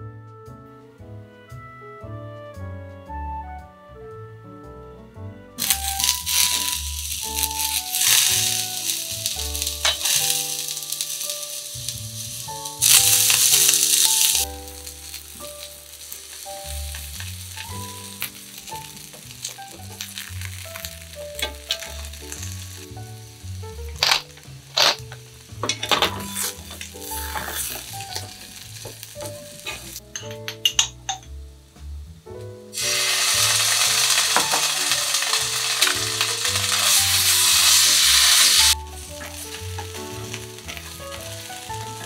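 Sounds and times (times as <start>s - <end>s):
background music: 0.0s - 42.0s
oil crackles: 5.6s - 30.1s, 32.8s - 42.0s
food sizzling in a frying pan: 5.6s - 30.8s, 32.7s - 42.0s.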